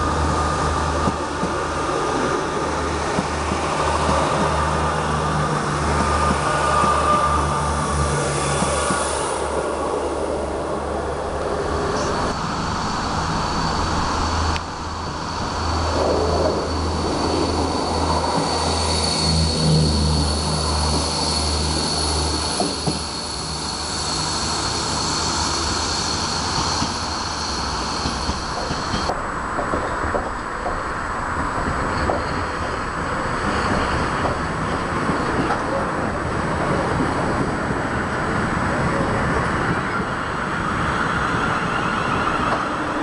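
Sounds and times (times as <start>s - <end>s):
trains rumbling on tracks: 0.0s - 43.0s.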